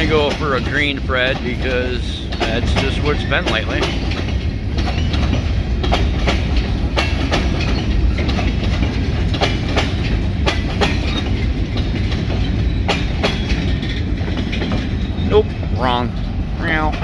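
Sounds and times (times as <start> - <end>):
freight train rumbling past: 0.0 - 17.0
wheels clacking on rail joints: 0.0 - 17.0.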